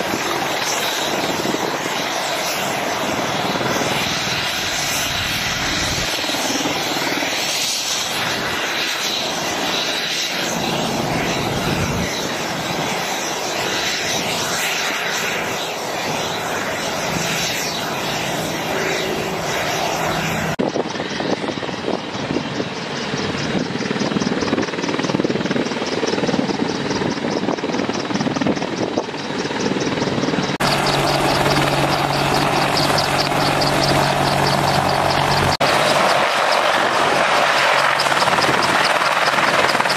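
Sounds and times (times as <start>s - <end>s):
helicopter rotor beat: 0.0s - 39.9s
turbine whine: 0.0s - 39.9s.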